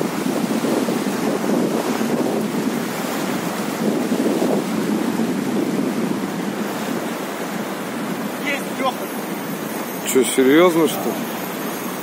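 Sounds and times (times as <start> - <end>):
wind buffeting microphone: 0.0 - 10.1
fast-flowing river: 0.0 - 12.0.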